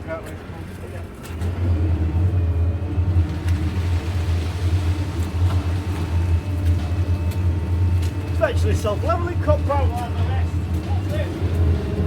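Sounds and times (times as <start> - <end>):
lorry engine humming: 1.3 - 12.0.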